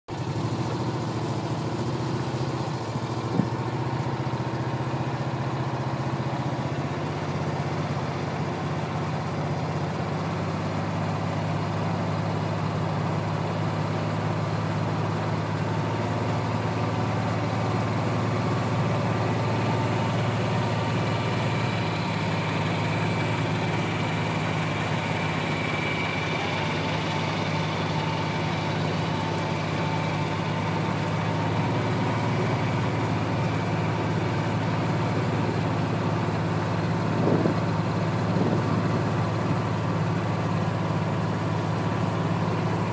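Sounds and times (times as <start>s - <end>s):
engine idling: 0.1s - 42.9s.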